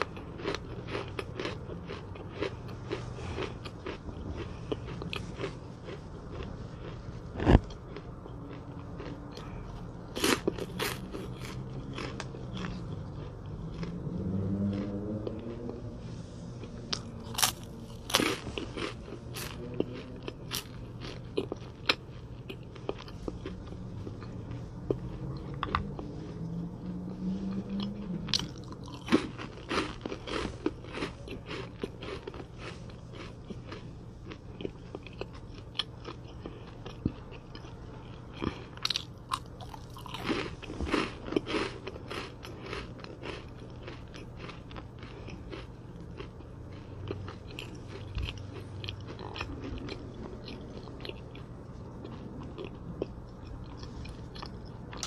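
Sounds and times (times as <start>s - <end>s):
crunching biscuit snacks: 0.0s - 55.0s.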